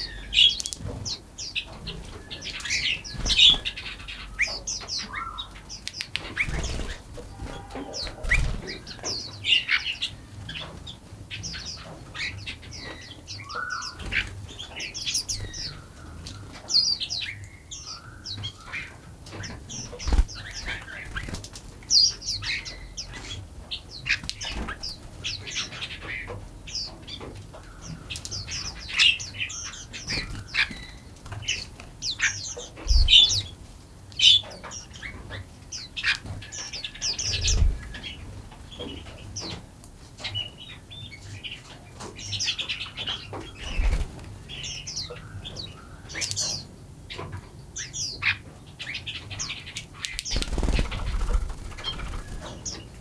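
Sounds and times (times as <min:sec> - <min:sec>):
small songbirds chirping: 0:00.0 - 0:53.0.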